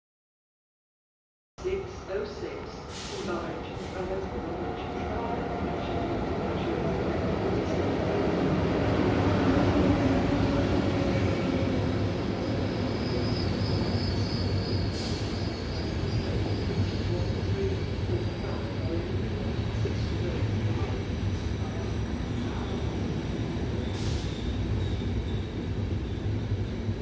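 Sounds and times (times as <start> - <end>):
train rumbling through station: 1.6 - 27.0.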